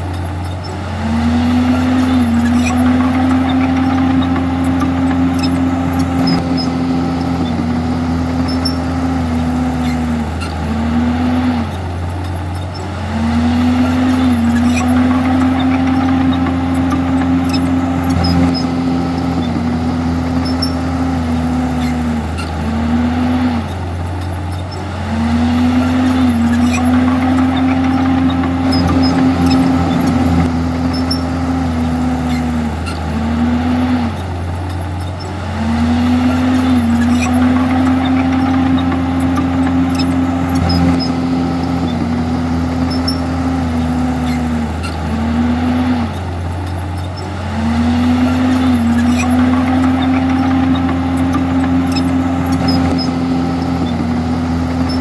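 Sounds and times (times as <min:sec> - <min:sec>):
bulldozer diesel engine running hard: 0:00.0 - 0:55.0.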